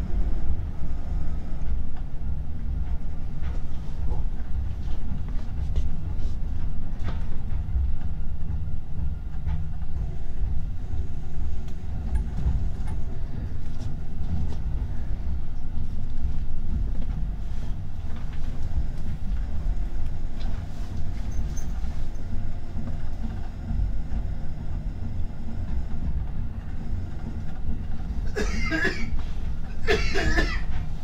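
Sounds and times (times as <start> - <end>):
wheels rumbling on rail: 0.0 - 31.0.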